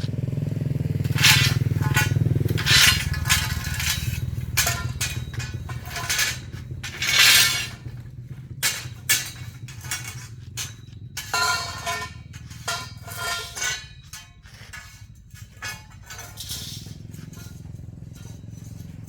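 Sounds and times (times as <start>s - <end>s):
low steady hum: 0.0s - 19.0s
metal scraping and clinking: 1.0s - 19.0s.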